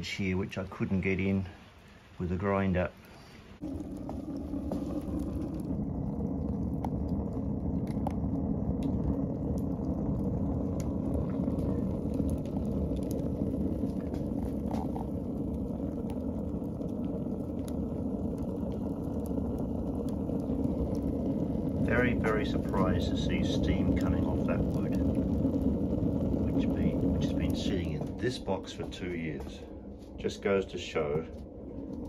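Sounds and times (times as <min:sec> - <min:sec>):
faint crackles of burning sticks: 0:00.0 - 0:32.0
fire drawing with low rush: 0:00.0 - 0:32.0.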